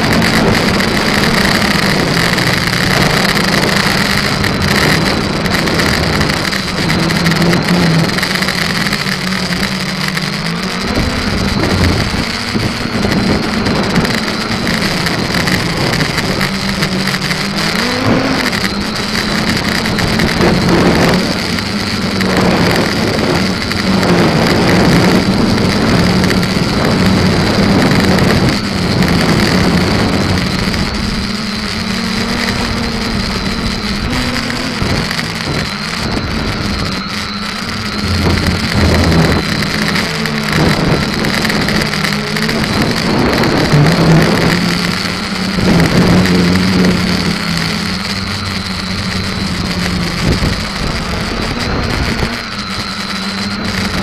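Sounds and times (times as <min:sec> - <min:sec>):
quadcopter motors droning: 0:00.0 - 0:54.0.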